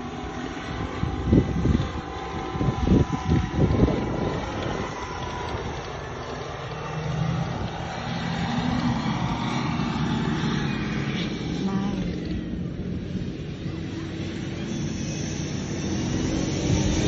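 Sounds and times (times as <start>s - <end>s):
vehicle engine under load: 0.0s - 17.0s
wind buffeting microphone: 0.0s - 17.0s.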